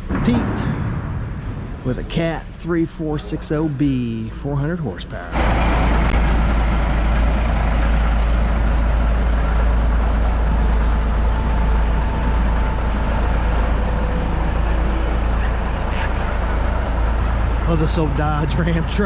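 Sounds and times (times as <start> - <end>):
road noise: 0.0 - 19.0
truck diesel engine rumbling: 0.0 - 19.0.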